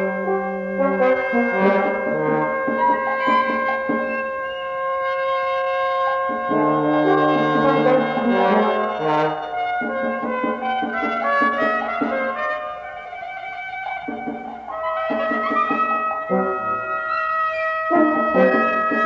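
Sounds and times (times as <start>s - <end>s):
chamber ensemble playing: 0.0s - 19.0s.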